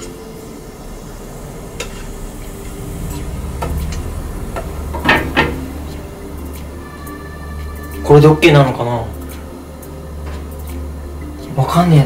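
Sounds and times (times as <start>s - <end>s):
low hum: 0.0s - 11.8s
light sizzle: 0.0s - 12.0s.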